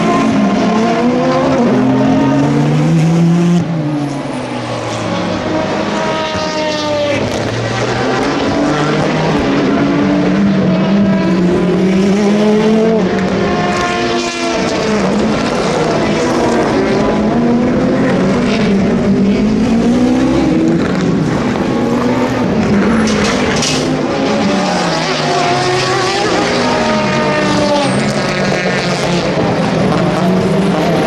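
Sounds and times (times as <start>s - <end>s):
race cars passing at speed: 0.0s - 31.0s.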